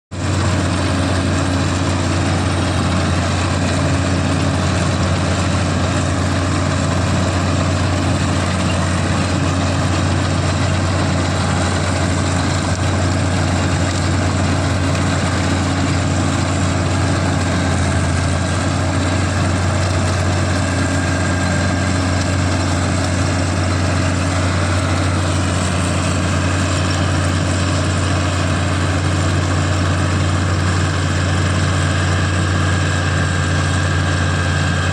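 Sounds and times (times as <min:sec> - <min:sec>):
combine harvester engine droning: 0:00.1 - 0:34.9.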